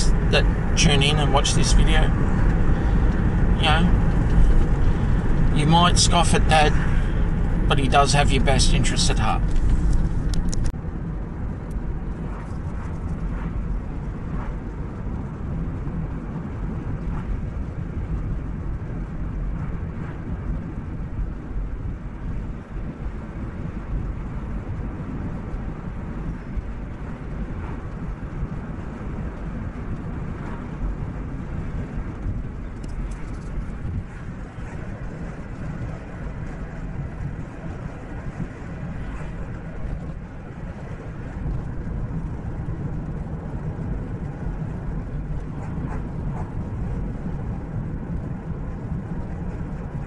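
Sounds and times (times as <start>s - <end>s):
car road and engine noise: 0.0s - 50.0s.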